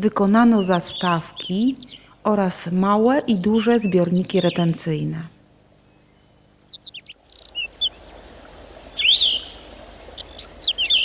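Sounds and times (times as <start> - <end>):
songbirds chirping and singing: 0.1 - 11.0.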